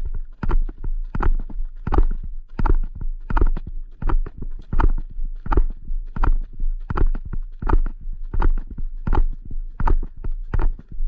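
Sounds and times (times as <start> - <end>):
horse hoofbeats on gravel: 0.0 - 11.0.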